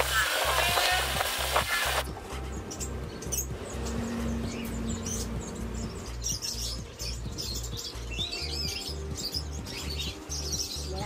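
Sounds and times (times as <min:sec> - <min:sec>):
background music with low beat: 0:00.0 - 0:11.0
small birds chirping: 0:00.0 - 0:11.0.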